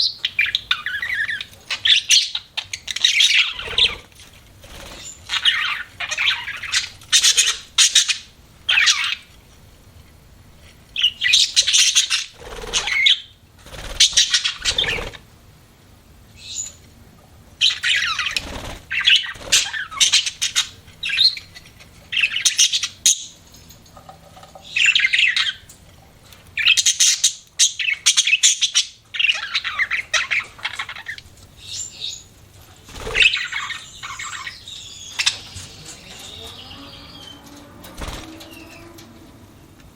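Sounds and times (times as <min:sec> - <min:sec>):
budgerigars chirping and chattering: 0:00.0 - 0:09.4, 0:11.0 - 0:15.3, 0:17.6 - 0:23.6, 0:24.4 - 0:39.0.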